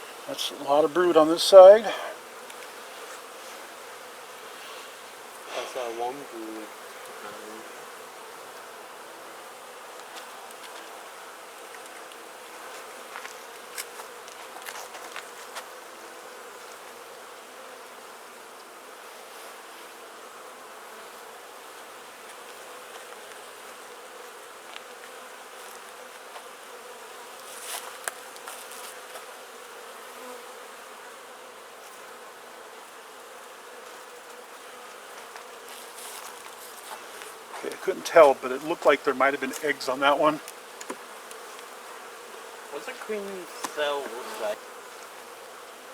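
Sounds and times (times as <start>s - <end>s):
bees buzzing: 0.0s - 45.9s.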